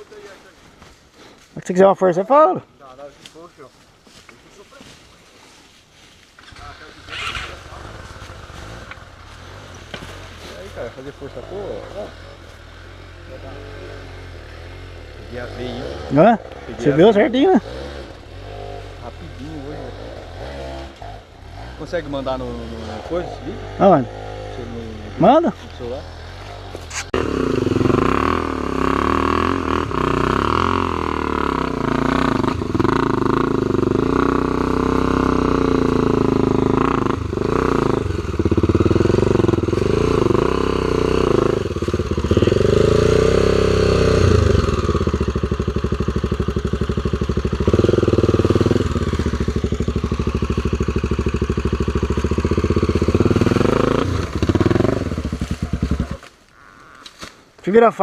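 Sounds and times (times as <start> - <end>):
motorcycle engine revving: 6.4 - 57.3.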